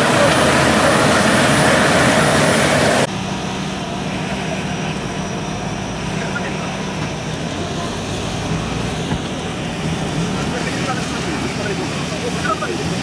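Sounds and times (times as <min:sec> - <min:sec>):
engine running hard: 0:00.0 - 0:13.0
engine running steadily with low hum: 0:00.0 - 0:13.0.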